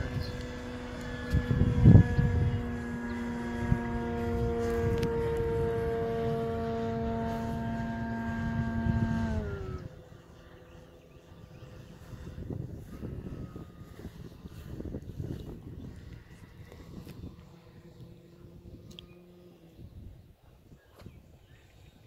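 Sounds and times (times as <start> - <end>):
model plane propeller droning: 0.0 - 22.0.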